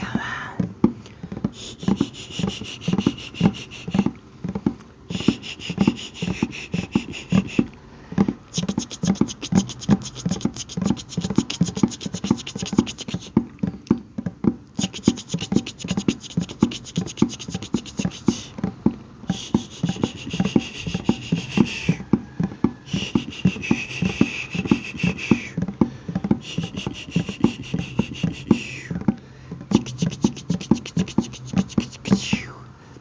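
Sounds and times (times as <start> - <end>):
tapping on a bucket: 0.0 - 32.6
fast scratching on a bucket: 0.0 - 32.7.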